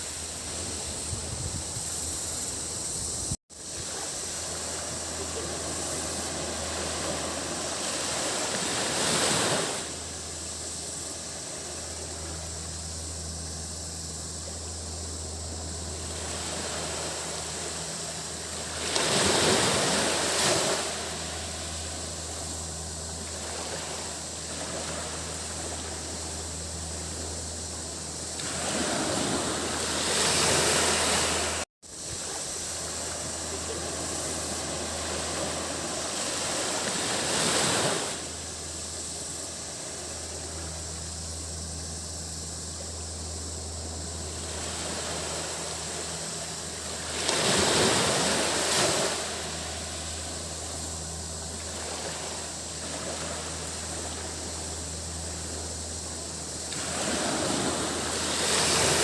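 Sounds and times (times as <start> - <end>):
cicadas droning: 0.0 - 59.0
small waves breaking on sand: 3.5 - 12.4, 15.9 - 40.7, 44.2 - 59.0.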